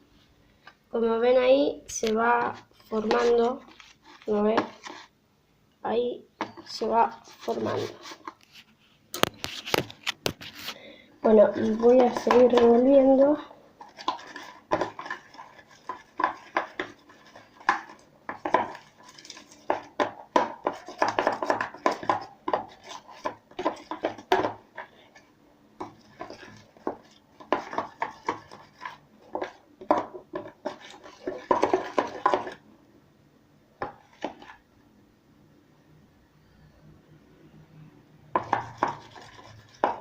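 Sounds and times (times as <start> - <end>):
spoon stirring slime in plastic tub: 1.9 - 5.1, 6.4 - 32.7, 33.8 - 34.7, 38.3 - 40.0.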